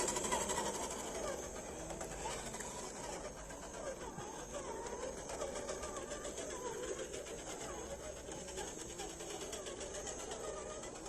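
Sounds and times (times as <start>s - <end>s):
toy car motor whining: 0.0s - 11.0s.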